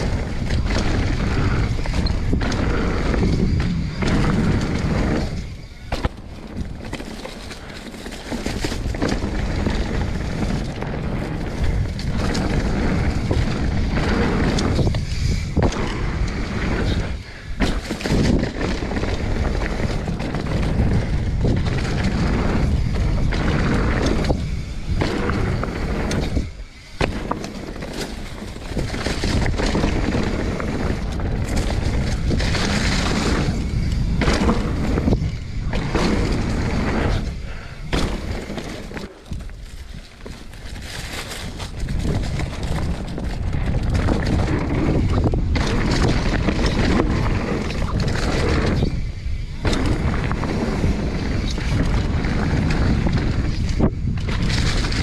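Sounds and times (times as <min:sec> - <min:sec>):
bike tyres rolling over dirt: 0:00.0 - 0:55.0
wind buffeting microphone: 0:00.0 - 0:55.0.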